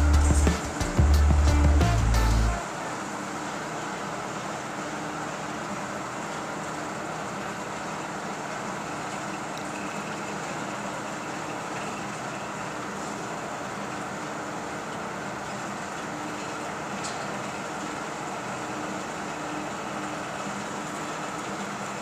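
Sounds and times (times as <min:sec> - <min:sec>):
construction hoist mechanical hum: 0:00.0 - 0:22.0.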